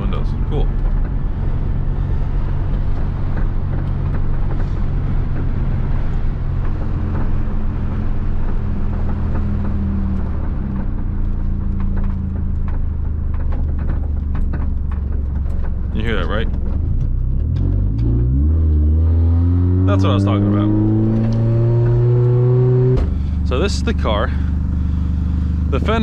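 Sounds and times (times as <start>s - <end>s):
car engine humming: 0.0s - 26.0s.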